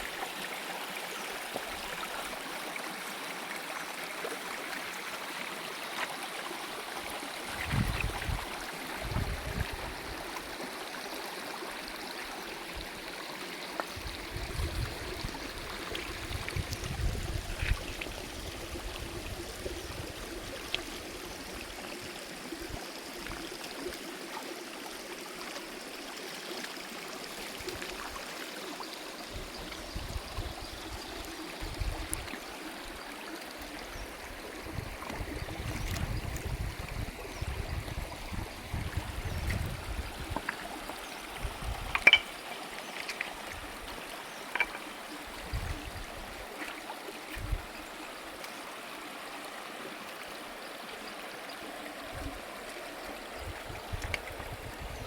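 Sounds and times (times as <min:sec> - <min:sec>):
stream water over rocks: 0:00.0 - 0:55.0.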